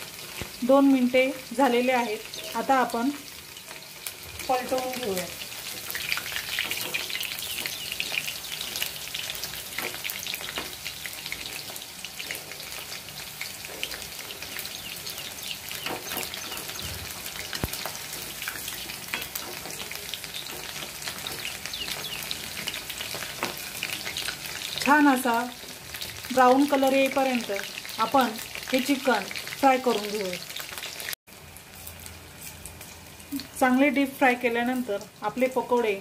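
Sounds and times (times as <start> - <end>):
chicken deep-frying in oil: 0.0 - 36.0.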